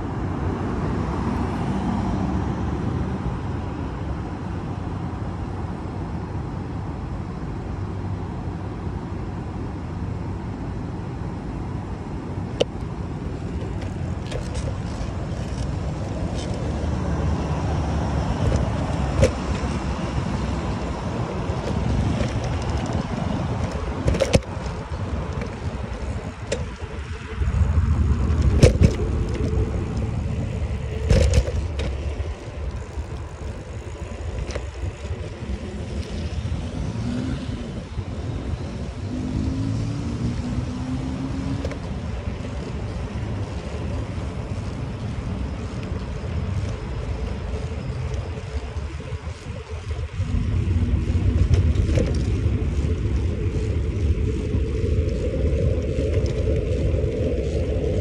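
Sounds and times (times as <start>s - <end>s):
wind rumbling on microphone: 0.0s - 58.0s
bicycle rolling: 10.4s - 58.0s.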